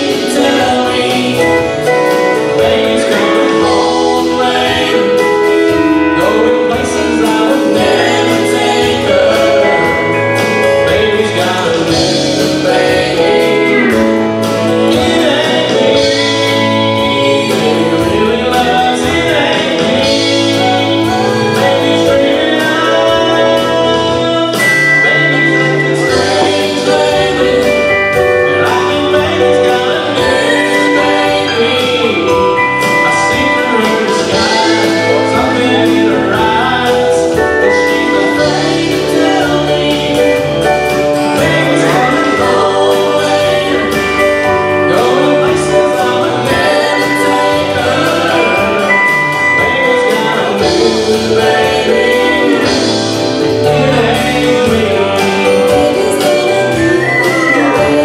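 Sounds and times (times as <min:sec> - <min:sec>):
live country band playing: 0:00.0 - 0:58.0
man singing: 0:00.0 - 0:58.0.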